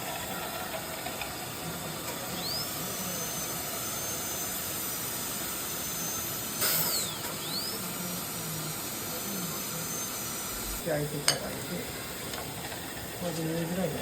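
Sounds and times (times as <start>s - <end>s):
dental drill high whine: 0.0s - 14.0s.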